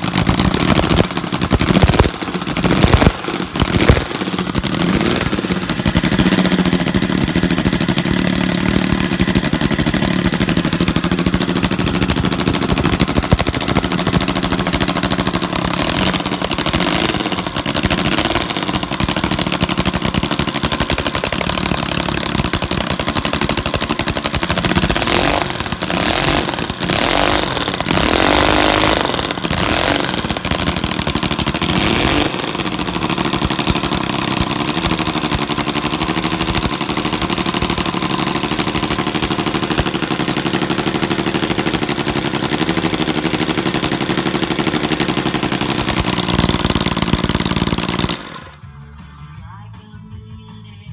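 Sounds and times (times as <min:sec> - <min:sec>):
unmuffled radial engine running: 0:00.0 - 0:50.9.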